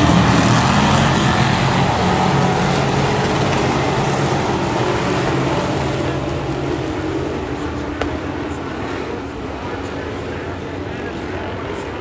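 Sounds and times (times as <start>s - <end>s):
rush of noise: 0.0s - 12.0s.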